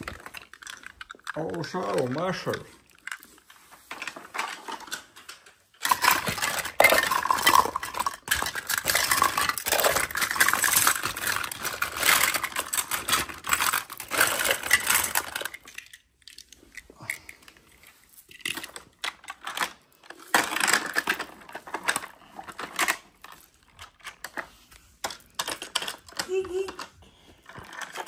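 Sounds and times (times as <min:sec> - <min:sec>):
plastic toys clattering: 0:00.0 - 0:28.0.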